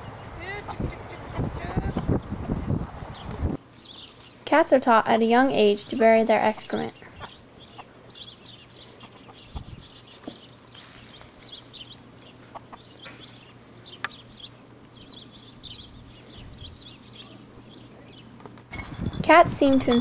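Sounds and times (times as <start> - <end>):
chickens chirping and clucking: 0.0 - 4.4, 5.9 - 19.2.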